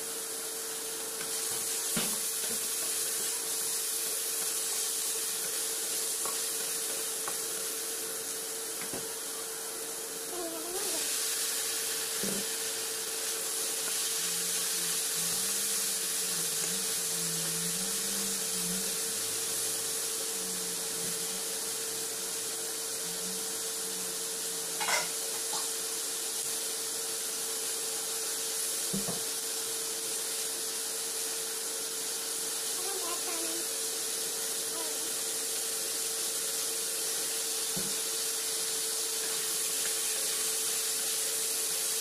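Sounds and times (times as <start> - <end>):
food sizzling in a wok: 0.0 - 42.0.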